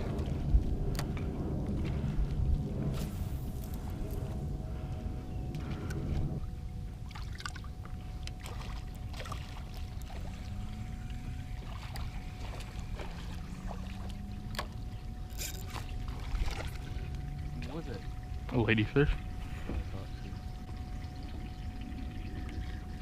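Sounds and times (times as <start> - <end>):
boat engine low rumble: 0.0 - 23.0
faint steady whine: 0.0 - 23.0
low hum: 0.0 - 23.0.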